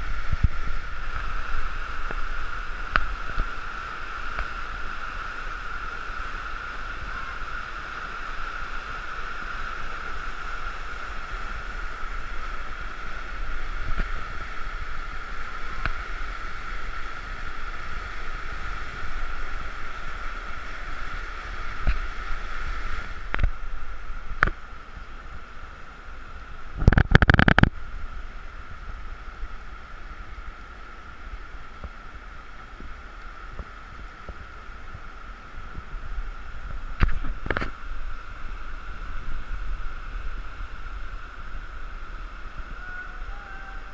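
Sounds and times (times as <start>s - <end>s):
river rushing through rapids: 0.0s - 43.9s
wind rumble on microphone: 0.0s - 43.9s.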